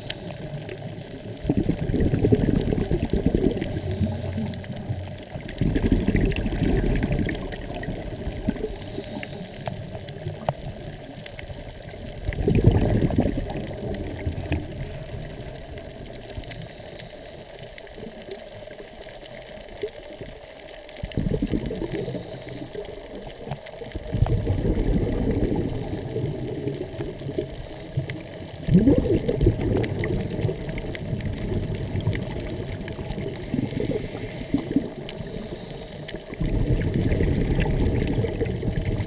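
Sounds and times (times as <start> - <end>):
diver's exhaled bubbles underwater: 0.0 - 16.9, 17.7 - 39.0
underwater water hiss: 0.0 - 39.0.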